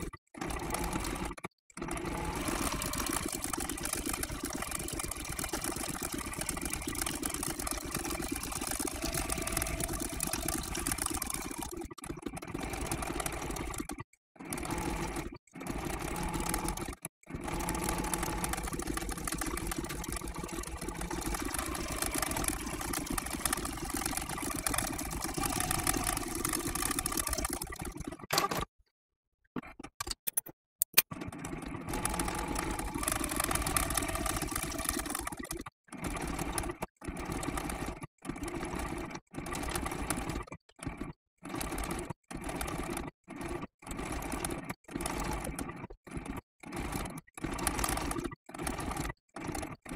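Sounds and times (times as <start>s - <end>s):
electric sewing machine running: 0.0s - 28.3s, 31.2s - 49.9s.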